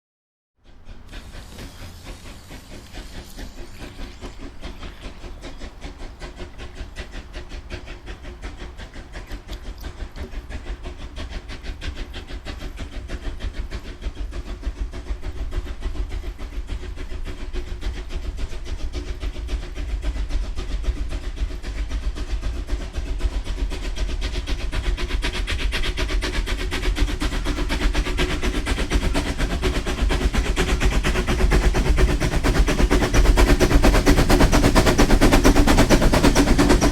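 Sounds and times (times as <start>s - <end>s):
model train wheels clicking: 0.6s - 36.9s.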